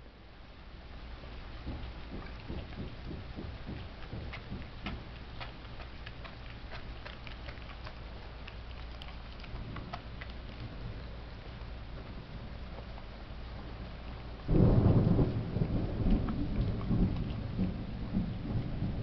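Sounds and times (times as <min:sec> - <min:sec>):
steady low rumble: 0:00.0 - 0:19.0
dog crunching bone: 0:01.6 - 0:17.8.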